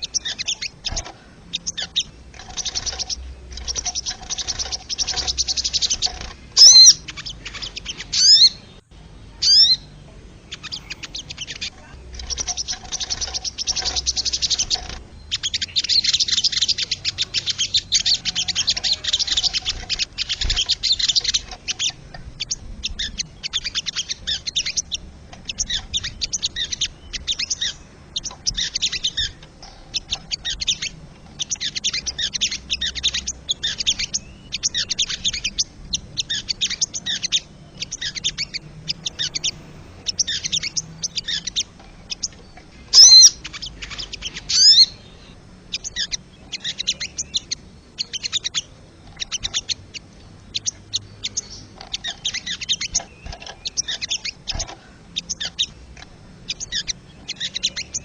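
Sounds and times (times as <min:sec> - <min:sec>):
jay chattering calls: 0:00.0 - 0:58.0.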